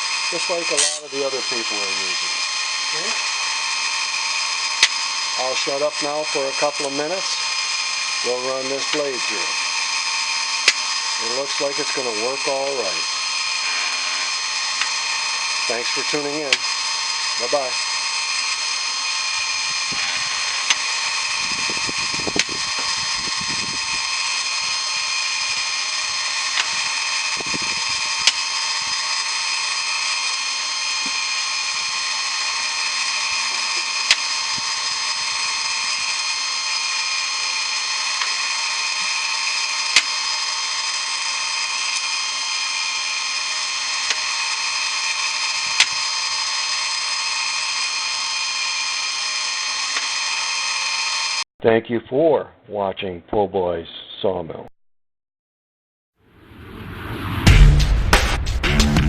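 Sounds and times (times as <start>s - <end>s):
grinder whining: 0.0s - 51.5s.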